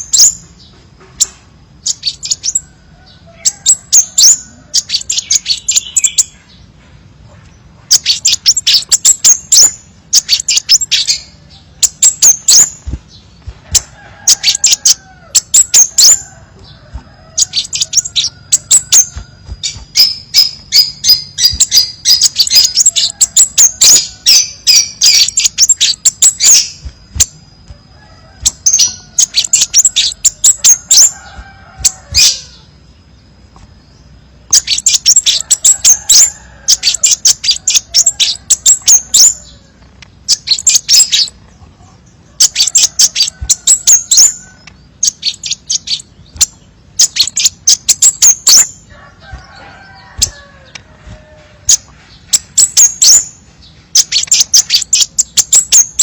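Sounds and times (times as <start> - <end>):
bird chips and trills: 0.0 - 56.0.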